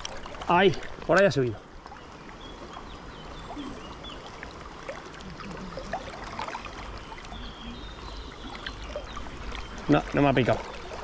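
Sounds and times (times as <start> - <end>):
river water rushing and gurgling: 0.0 - 11.0.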